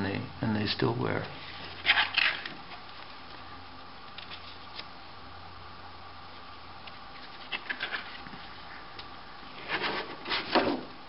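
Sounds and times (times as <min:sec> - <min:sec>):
room tone hiss and hum: 0:00.0 - 0:11.0.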